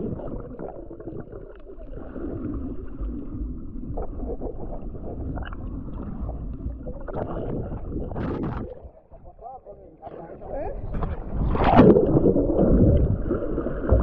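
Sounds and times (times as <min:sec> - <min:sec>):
underwater rumble and gurgling: 0:00.0 - 0:14.0.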